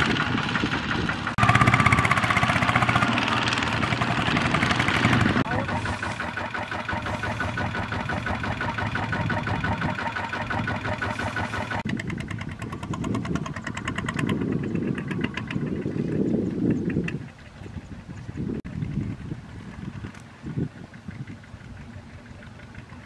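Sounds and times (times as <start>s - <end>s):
diesel tractor engines chugging: 0.0s - 23.0s.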